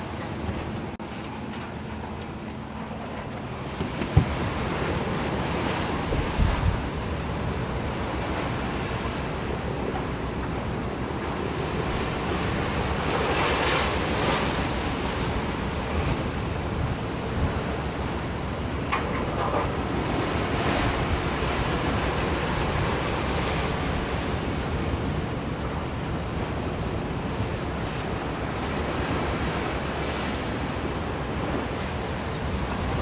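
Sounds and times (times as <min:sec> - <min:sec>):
waves breaking against ship: 0:00.0 - 0:33.0
wind buffeting microphone: 0:00.0 - 0:33.0.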